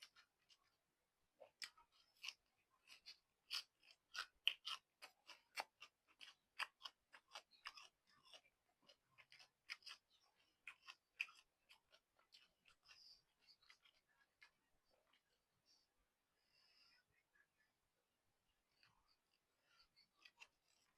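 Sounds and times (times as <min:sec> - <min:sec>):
person chewing noodles: 0:00.0 - 0:00.8, 0:01.4 - 0:15.4, 0:18.8 - 0:20.9.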